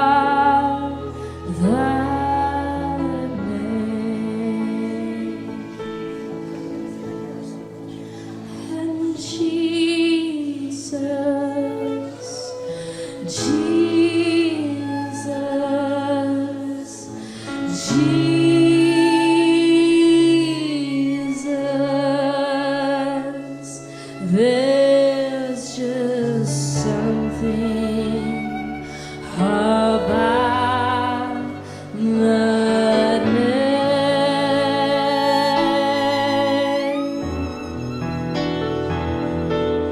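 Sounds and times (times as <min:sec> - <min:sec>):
woman singing wordless phrases: 0:00.0 - 0:05.4, 0:08.6 - 0:28.6, 0:29.3 - 0:37.2.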